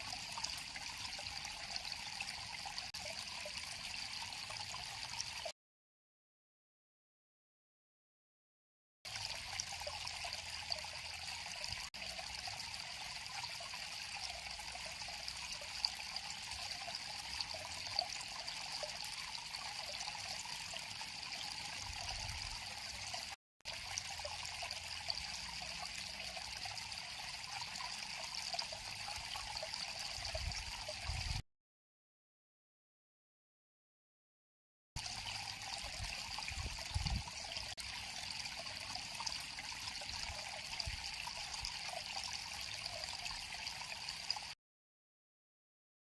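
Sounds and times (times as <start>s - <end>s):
river water flowing and trickling: 0.0s - 5.5s, 9.1s - 31.4s, 35.0s - 44.6s.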